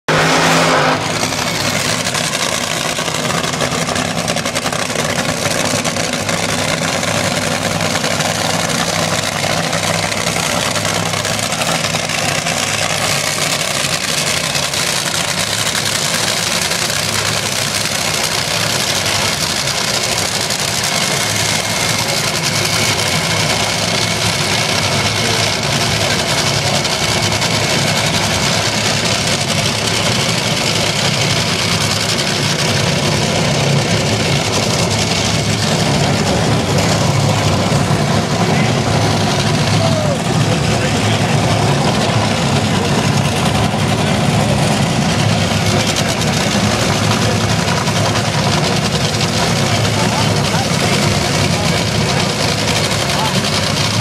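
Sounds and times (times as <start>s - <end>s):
drag racing car engines idling: 0.1s - 54.0s.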